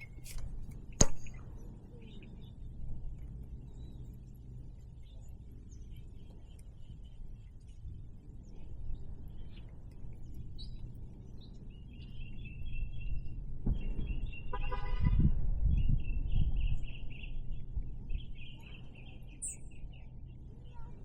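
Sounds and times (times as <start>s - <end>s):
small birds twittering: 0.0s - 14.8s, 15.6s - 21.0s.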